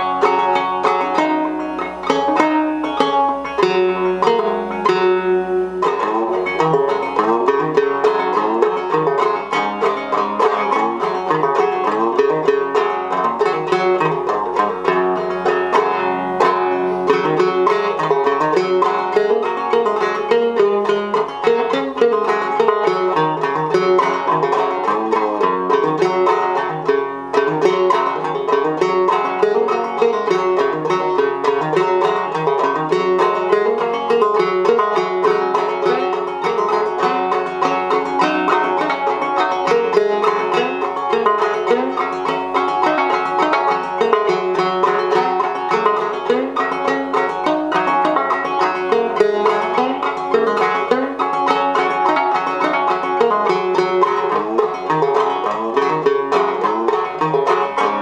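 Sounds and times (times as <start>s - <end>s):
banjo plucked notes: 0.0s - 58.0s.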